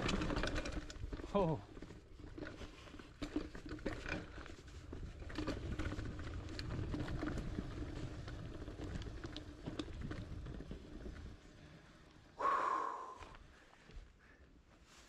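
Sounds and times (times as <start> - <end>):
bike clicking and rattling: 0.0 - 12.4
bike tyre noise on dirt: 0.0 - 15.0.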